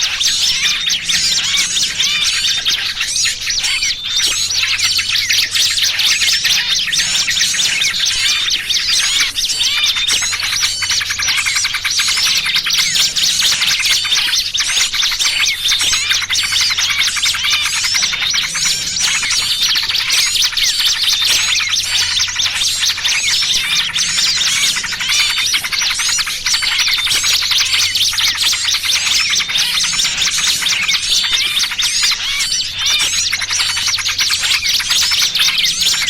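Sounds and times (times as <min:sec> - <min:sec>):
small birds chirping and twittering: 0:00.0 - 0:36.0.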